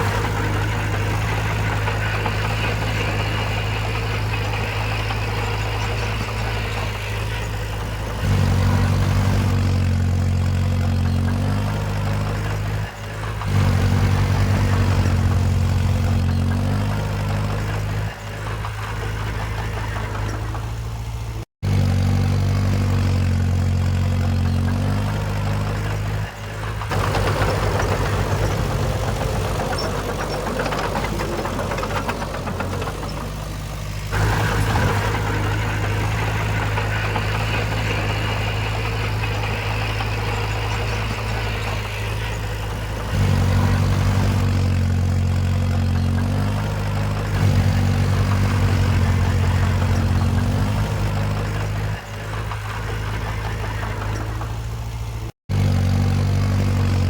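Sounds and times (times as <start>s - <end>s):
diesel engines of earthmoving machinery: 0.0s - 57.0s.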